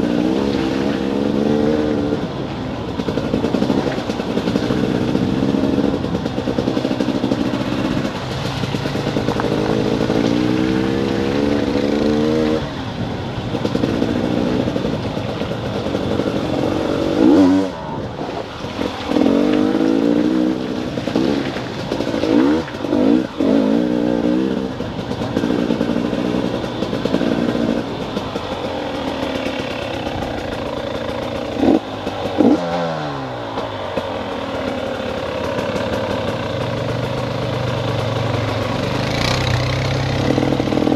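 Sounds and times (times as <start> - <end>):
small off-road engine revving: 0.0 - 40.9.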